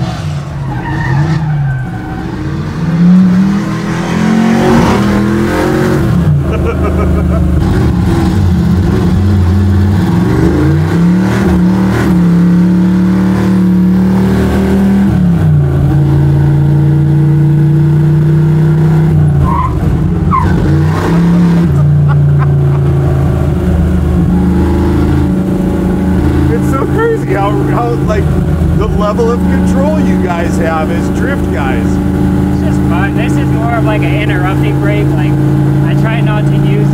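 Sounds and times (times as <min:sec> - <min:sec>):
loud truck engine revving: 0:00.0 - 0:36.9.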